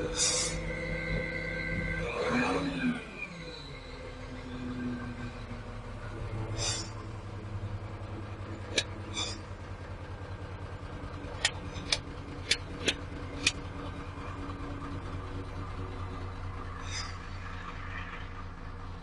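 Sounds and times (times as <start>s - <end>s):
diesel crane engine idling: 0.0s - 19.0s.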